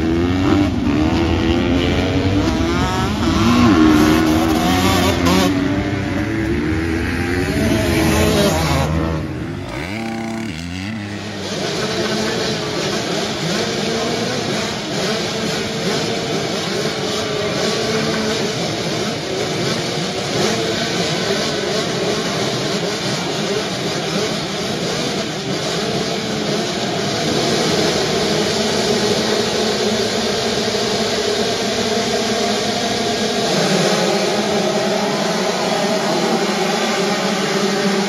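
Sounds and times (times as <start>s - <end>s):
motocross bikes revving: 0.0s - 38.0s.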